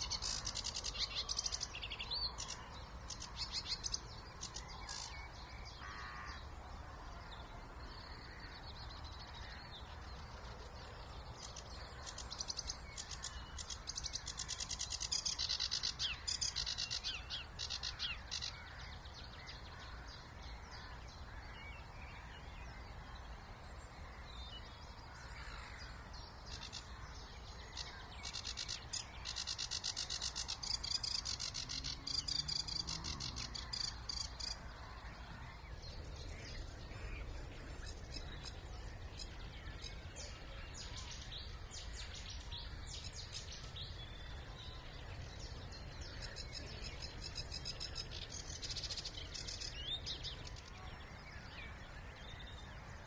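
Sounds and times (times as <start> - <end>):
songbirds chattering: 0.0 - 53.0.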